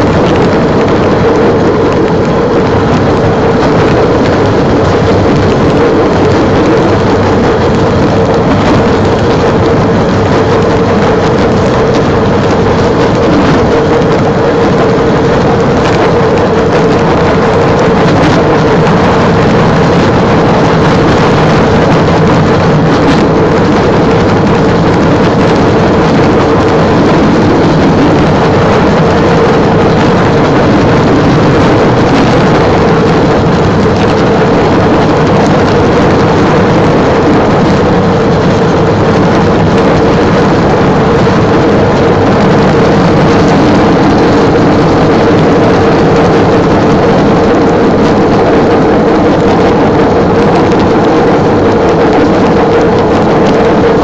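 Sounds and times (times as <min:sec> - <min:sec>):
rail vehicle engine droning: 0:00.0 - 0:54.0.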